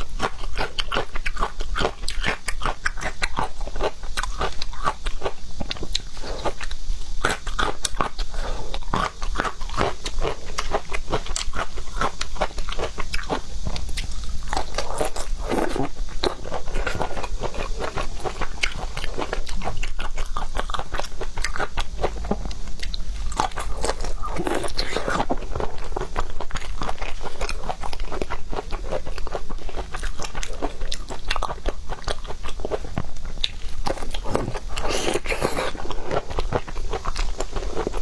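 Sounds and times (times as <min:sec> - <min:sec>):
chewing with wet crackles: 0:00.0 - 0:38.0.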